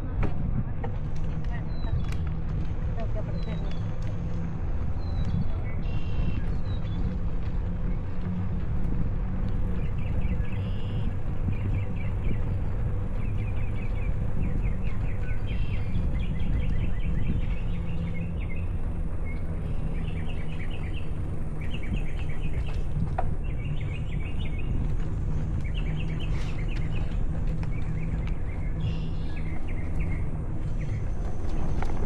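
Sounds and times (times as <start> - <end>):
birds chirping: 0.0 - 32.0
wind rumble on microphone: 0.0 - 32.0.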